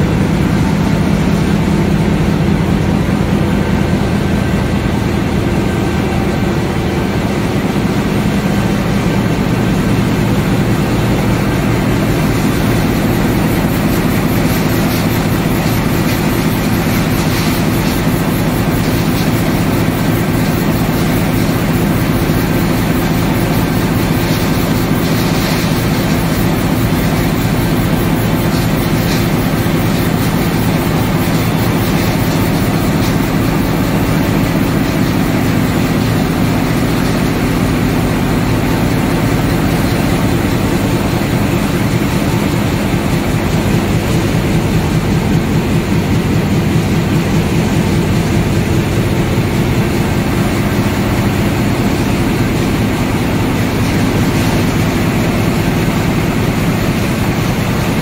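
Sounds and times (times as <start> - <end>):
machine rumbling and clattering: 0.0 - 58.0.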